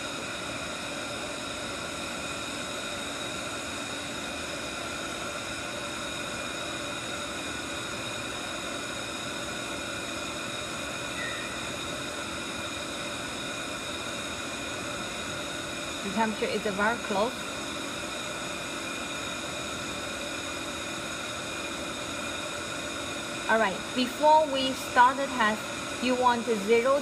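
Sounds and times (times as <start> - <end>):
equipment hum and whir: 0.0 - 27.0
steady whining tones: 0.0 - 27.0.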